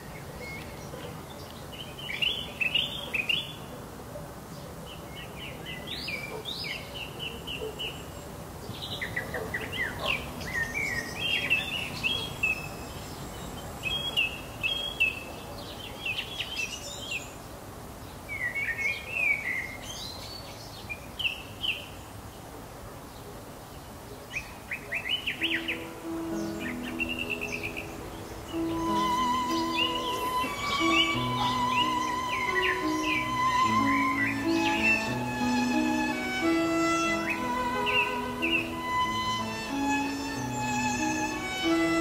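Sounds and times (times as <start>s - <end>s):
songbirds chirping and trilling: 0.0s - 42.0s
steady background hiss: 0.0s - 42.0s.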